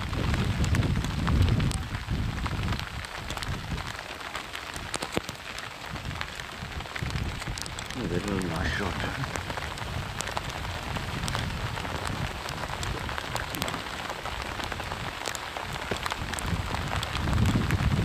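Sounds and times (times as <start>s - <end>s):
raindrop ticks: 0.0s - 18.0s
steady rain: 0.0s - 18.0s.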